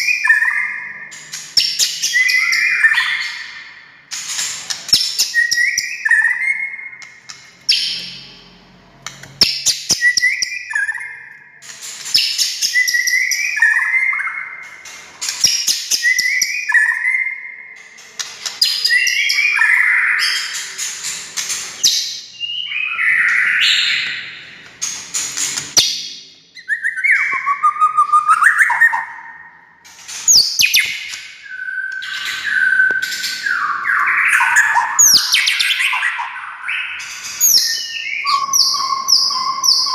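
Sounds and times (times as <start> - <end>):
bird singing: 0.0 - 4.0, 4.7 - 24.7, 25.7 - 39.9.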